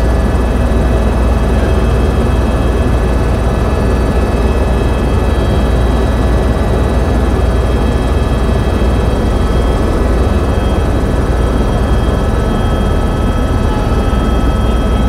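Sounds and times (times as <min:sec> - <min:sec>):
helicopter rotor and engine drone: 0:00.0 - 0:15.0
high whine: 0:00.0 - 0:15.0.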